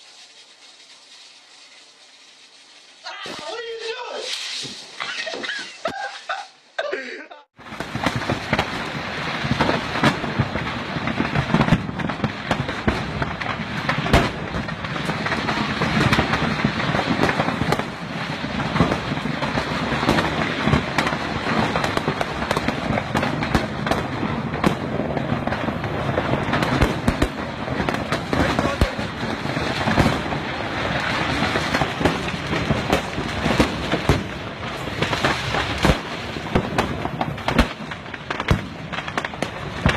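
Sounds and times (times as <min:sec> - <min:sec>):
firecrackers exploding: 0:00.0 - 0:06.8, 0:07.4 - 0:39.9.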